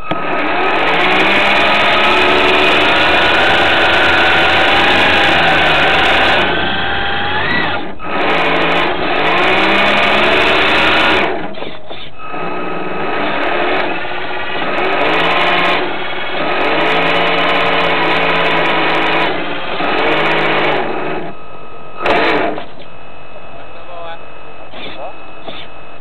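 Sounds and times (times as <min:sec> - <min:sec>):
small boat motor whining: 0:00.0 - 0:26.0.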